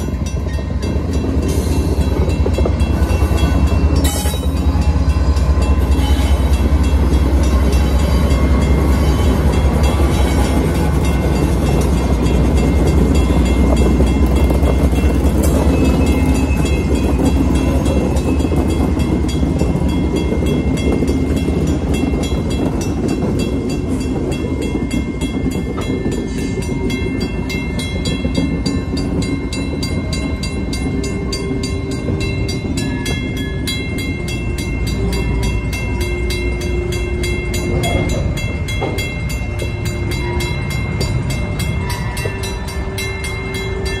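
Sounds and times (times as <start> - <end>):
diesel locomotive rumble: 0.0 - 44.0
train wheels on rails: 0.0 - 44.0.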